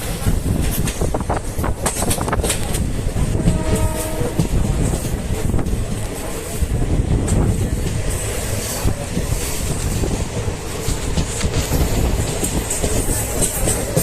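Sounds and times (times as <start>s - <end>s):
train rumbling on rails: 0.0s - 14.0s
train wheels clacking: 0.0s - 14.0s.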